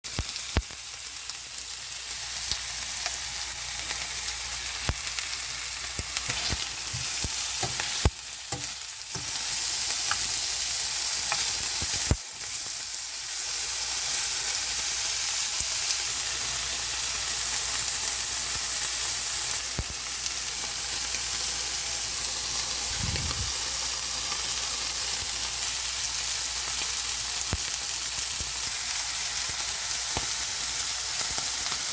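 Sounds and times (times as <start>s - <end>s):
pork sizzling as it fries: 0.0s - 31.9s.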